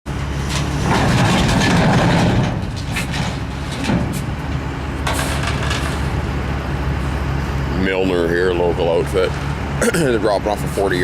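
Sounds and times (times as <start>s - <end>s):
diesel engine running: 0.1s - 11.0s.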